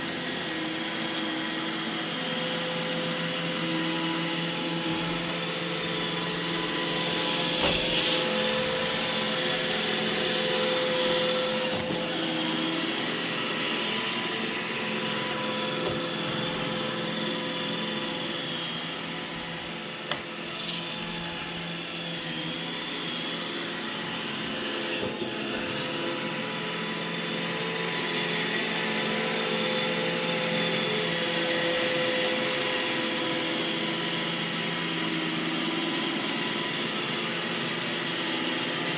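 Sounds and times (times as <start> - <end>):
robot vacuum humming: 0.0 - 38.9.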